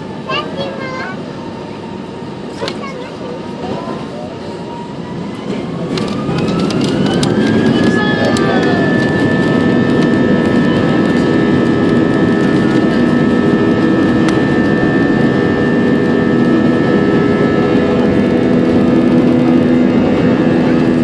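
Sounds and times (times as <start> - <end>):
jet engines roaring with whine: 0.0 - 21.0.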